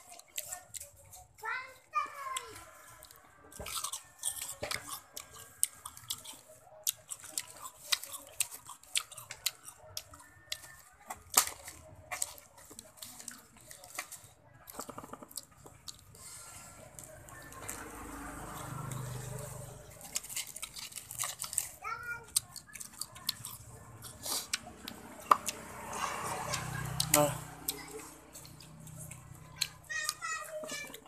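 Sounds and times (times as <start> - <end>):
person chewing crunchy fruit: 0.0 - 1.4, 2.2 - 31.0.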